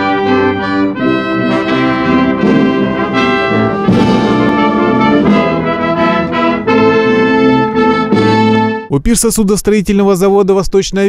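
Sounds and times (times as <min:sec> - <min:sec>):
brass band playing: 0:00.0 - 0:08.9.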